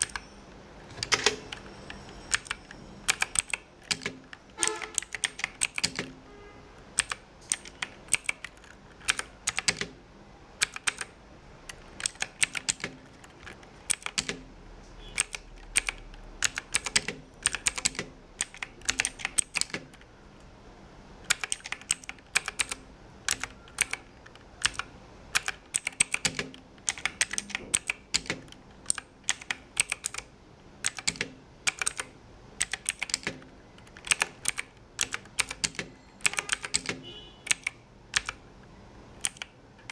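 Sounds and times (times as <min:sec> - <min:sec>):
mechanical keyboard clicks: 0:00.0 - 0:00.3, 0:00.9 - 0:06.2, 0:06.9 - 0:10.0, 0:10.6 - 0:14.5, 0:15.1 - 0:20.1, 0:21.2 - 0:38.4, 0:39.2 - 0:39.9.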